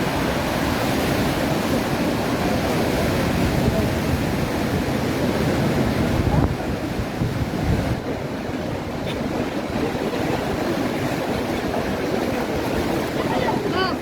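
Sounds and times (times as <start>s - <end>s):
ocean surf washing on shore: 0.0s - 14.0s
wind buffeting microphone: 0.0s - 14.0s.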